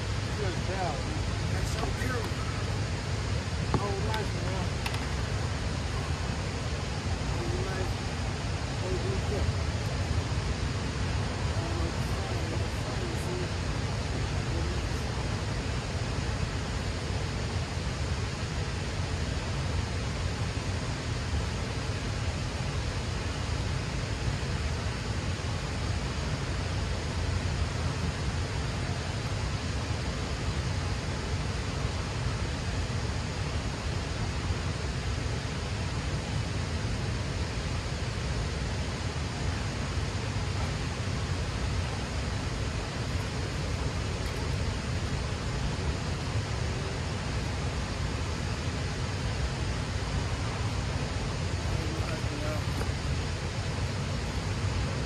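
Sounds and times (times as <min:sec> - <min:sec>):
water rushing through dam: 0:00.0 - 0:55.0.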